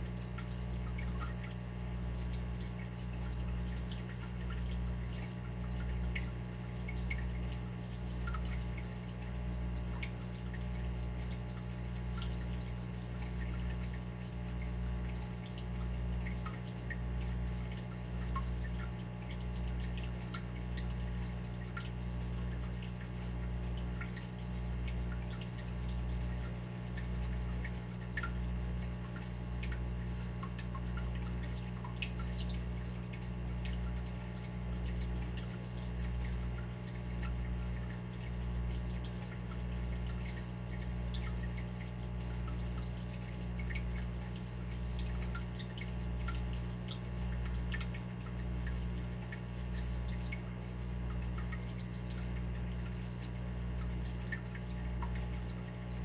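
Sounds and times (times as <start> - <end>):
water dripping: 0.0 - 56.0.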